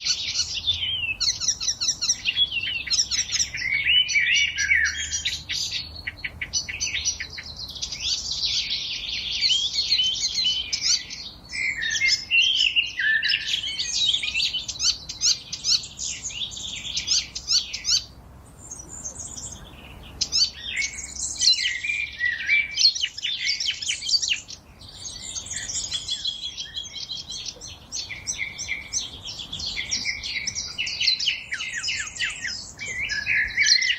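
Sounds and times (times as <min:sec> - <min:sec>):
songbirds chorus: 0:00.0 - 0:33.9.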